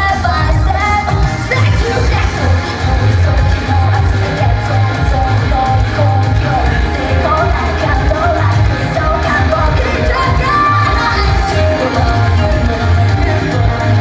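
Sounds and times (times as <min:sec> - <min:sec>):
pop song over sound system: 0:00.0 - 0:14.0.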